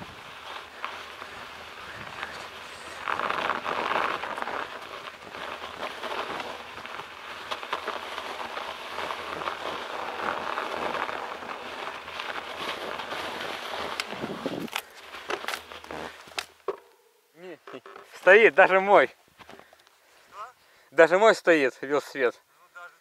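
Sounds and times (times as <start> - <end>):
bicycle tyres rolling through snow: 0.0 - 16.8, 17.4 - 22.4.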